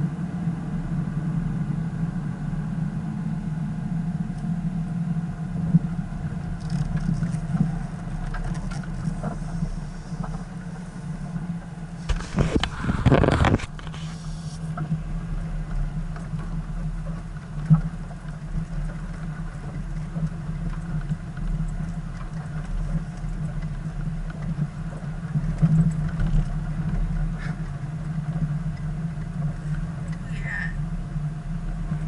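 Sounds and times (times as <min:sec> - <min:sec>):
vehicle engine humming: 0:00.0 - 0:32.0.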